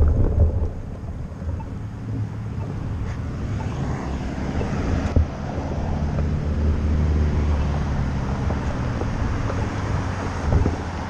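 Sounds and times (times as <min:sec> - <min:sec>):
cars passing: 0:00.0 - 0:11.0
wind on microphone: 0:00.0 - 0:11.0.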